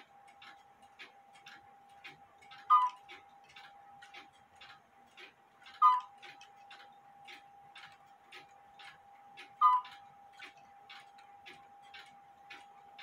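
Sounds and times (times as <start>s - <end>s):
clock ticking: 0.0s - 13.0s
faint steady hum: 0.0s - 13.0s.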